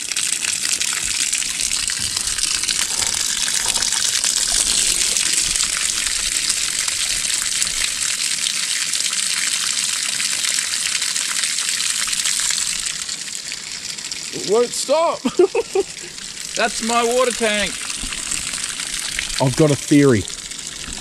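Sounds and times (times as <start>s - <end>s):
water gushing from drain hole: 0.0s - 21.0s.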